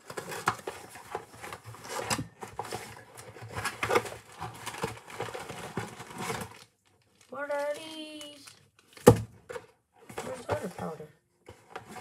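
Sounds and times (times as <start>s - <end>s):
hands rummaging in cardboard box: 0.0s - 8.4s, 9.6s - 12.0s.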